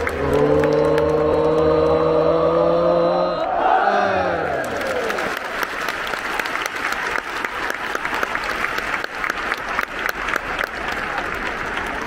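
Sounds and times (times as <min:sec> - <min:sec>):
crowd applauding: 0:00.0 - 0:03.0, 0:04.2 - 0:12.0.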